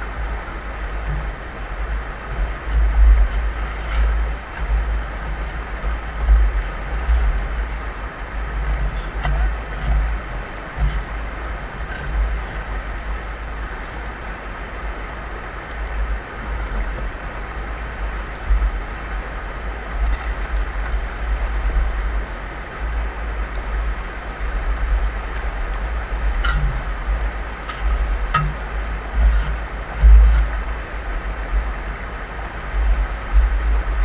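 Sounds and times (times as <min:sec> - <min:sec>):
stream running over rocks: 0:00.0 - 0:34.0
wind rumbling on microphone: 0:00.0 - 0:34.0.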